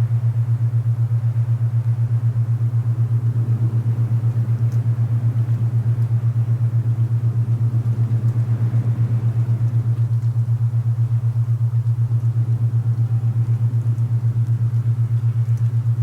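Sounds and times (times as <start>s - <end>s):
pulsing low hum: 0.0s - 16.0s
soft rushing wind noise: 2.0s - 16.0s.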